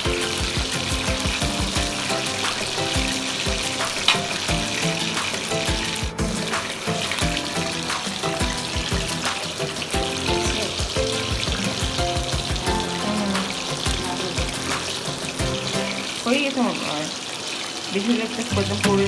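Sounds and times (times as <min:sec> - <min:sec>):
background music with beat: 0:00.0 - 0:16.2
hot oil sizzling: 0:00.0 - 0:19.0.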